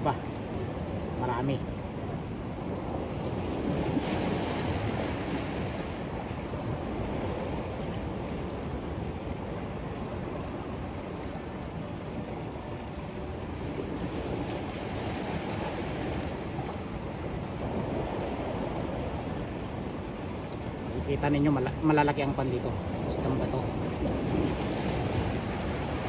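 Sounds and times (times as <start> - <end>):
sea surf on rocky shore: 0.0 - 26.0
wind buffeting microphone: 0.0 - 26.0.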